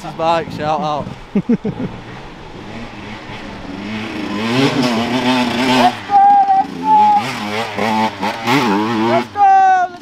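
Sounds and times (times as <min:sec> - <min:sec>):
dirt bike engine revving: 0:00.1 - 0:10.0.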